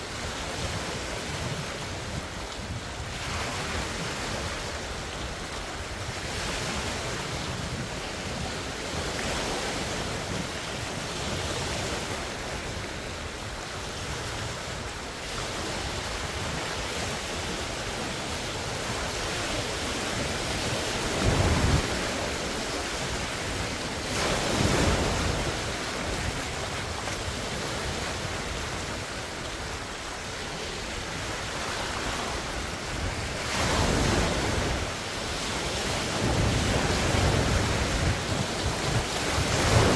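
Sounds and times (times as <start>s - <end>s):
lake waves washing and splashing: 0.0s - 39.9s
wind buffeting microphone: 0.0s - 39.9s.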